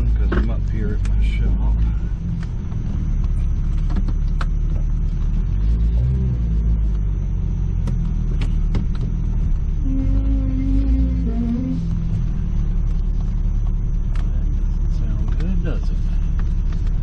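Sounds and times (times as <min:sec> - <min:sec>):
car engine low rumble: 0:00.0 - 0:17.0
short steady hum: 0:00.9 - 0:17.0.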